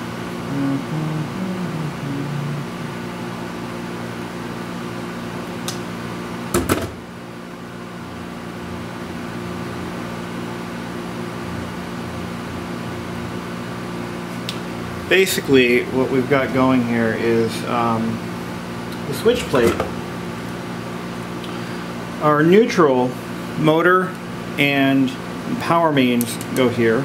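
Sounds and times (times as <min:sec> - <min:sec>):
appliance humming: 0:00.0 - 0:27.0.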